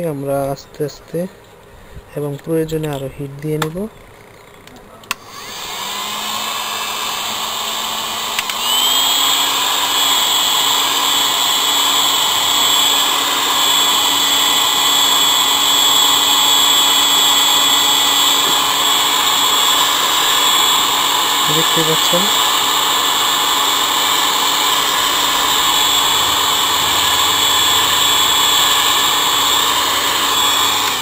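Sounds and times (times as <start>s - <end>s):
hot air gun blowing: 5.1s - 31.0s.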